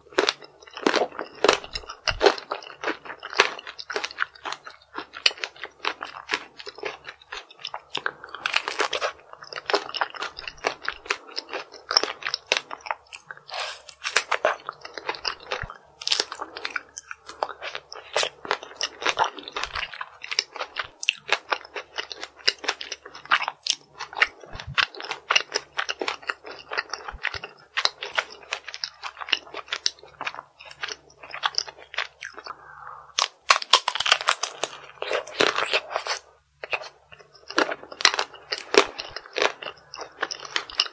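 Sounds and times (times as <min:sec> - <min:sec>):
crunching hard candy shell: 0:00.1 - 0:40.9.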